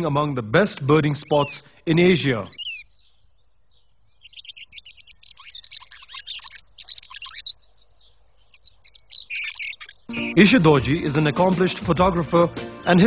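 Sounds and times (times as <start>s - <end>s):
songbird chirping and trilling: 0.0s - 12.4s.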